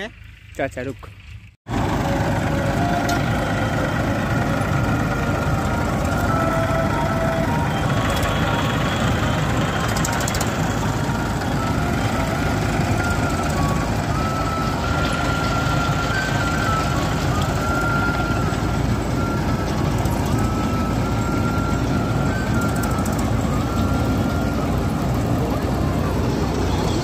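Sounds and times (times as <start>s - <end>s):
tractor engine rumbling: 0.0s - 27.0s.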